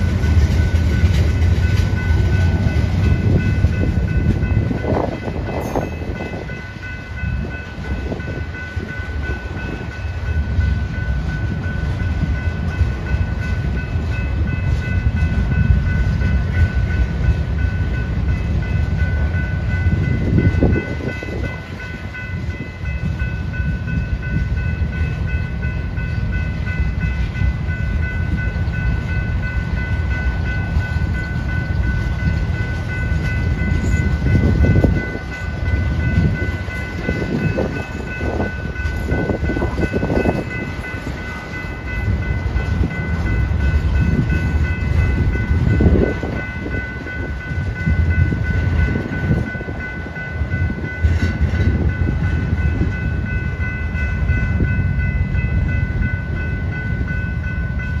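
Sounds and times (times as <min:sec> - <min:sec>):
steel wheels rumbling on rail: 0:00.0 - 0:58.0
train cars clanking: 0:00.0 - 0:58.0.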